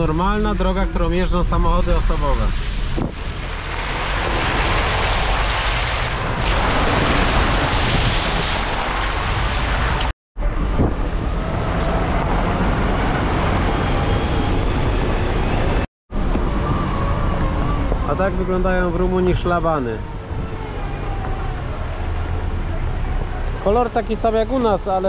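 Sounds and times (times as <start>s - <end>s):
wind noise: 0.0s - 21.8s.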